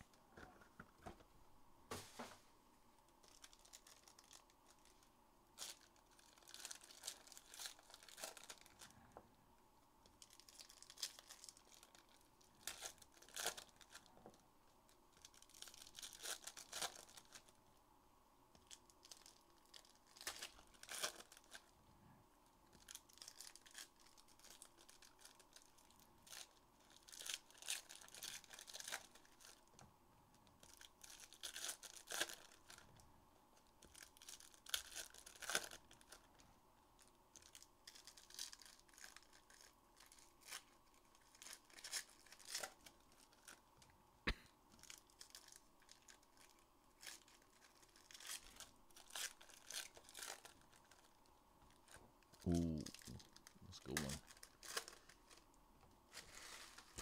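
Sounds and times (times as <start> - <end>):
plastic wrapping tearing and crinkling: 3.2 - 8.9, 10.0 - 14.4, 15.1 - 17.5, 18.6 - 21.7, 22.7 - 29.8, 30.4 - 33.0, 33.6 - 36.4, 37.0 - 43.9, 44.7 - 55.5.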